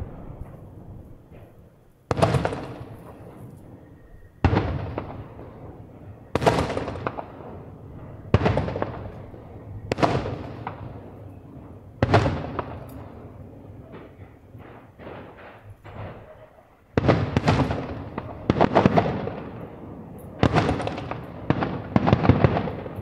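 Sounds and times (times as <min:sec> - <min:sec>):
fireworks booming with echo: 0:00.0 - 0:23.0.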